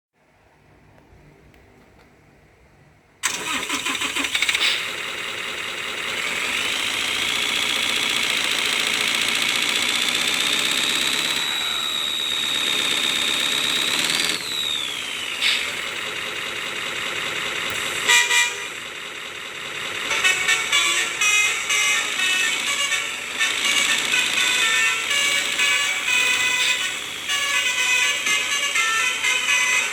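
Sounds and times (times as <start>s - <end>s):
simulated truck engine whine: 2.8s - 29.9s.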